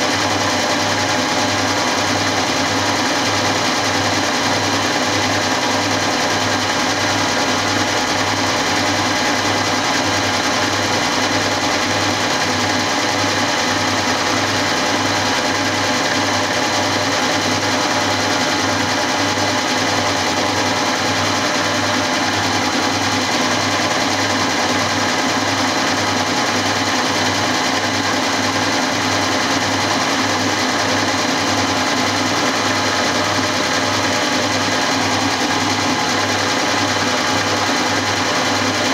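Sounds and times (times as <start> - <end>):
milling machine humming: 0.0 - 38.9.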